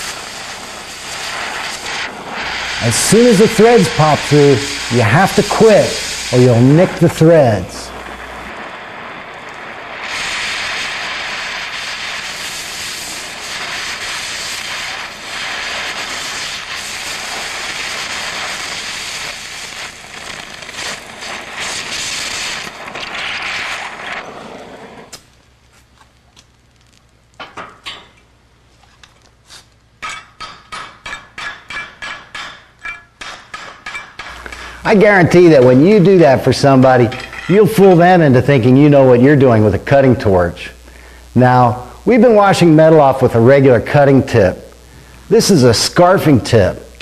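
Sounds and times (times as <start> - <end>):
cutting torch hissing: 0.0 - 25.3, 34.2 - 47.0.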